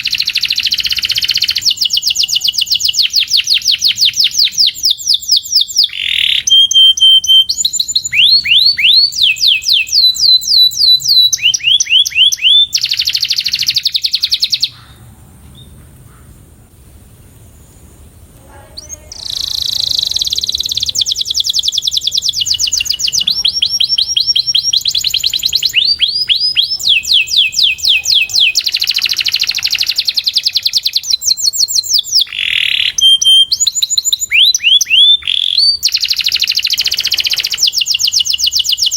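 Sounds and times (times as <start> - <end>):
canary singing trills: 0.0 - 15.8, 17.6 - 38.9.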